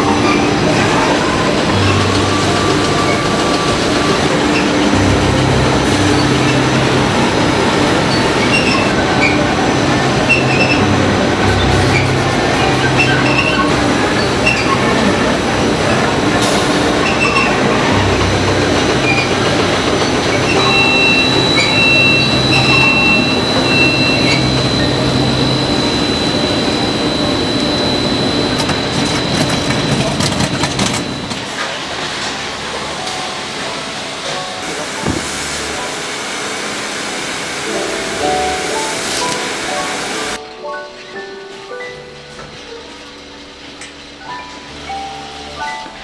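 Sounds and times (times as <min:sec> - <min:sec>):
textile machinery running: 0:00.0 - 0:40.4
thin high whine: 0:00.0 - 0:40.4.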